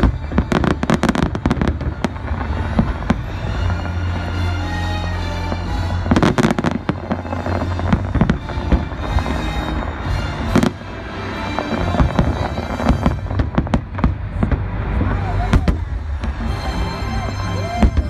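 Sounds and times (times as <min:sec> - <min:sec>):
fireworks bursting: 0:00.0 - 0:04.6, 0:05.2 - 0:18.0
background music: 0:00.0 - 0:18.0.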